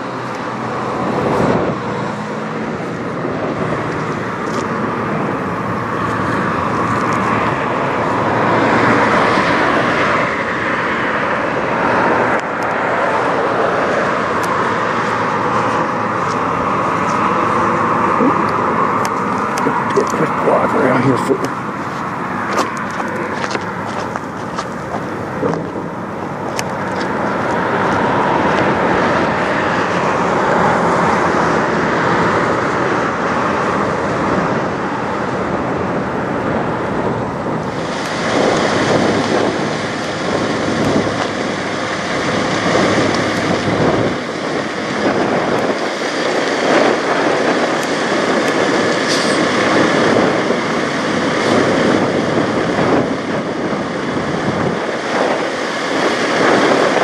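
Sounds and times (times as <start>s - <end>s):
diesel truck engine running: 0.0s - 57.0s
wind on microphone: 0.0s - 57.0s.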